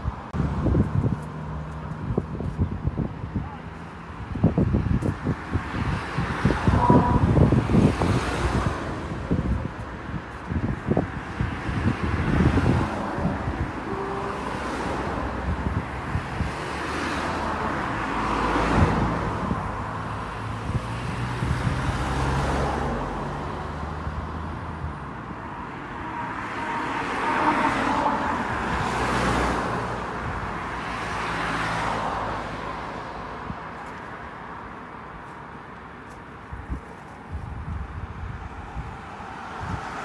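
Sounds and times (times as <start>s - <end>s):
cars passing by: 0.0s - 40.0s.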